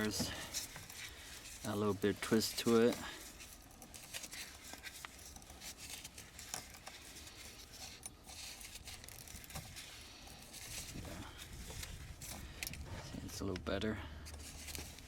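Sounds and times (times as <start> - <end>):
wires clicking and rustling: 0.0 - 15.0.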